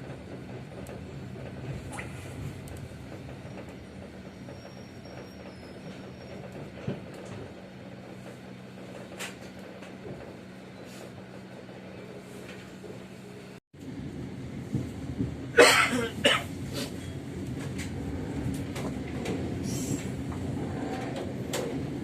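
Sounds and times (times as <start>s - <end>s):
train hum and rumble: 0.0s - 22.0s.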